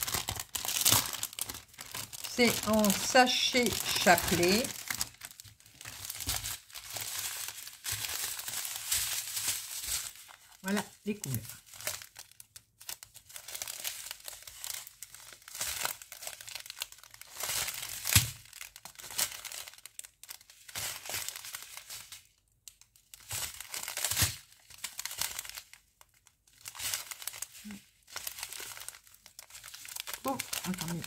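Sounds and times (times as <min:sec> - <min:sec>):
plastic sachets crinkling: 0:00.0 - 0:31.0.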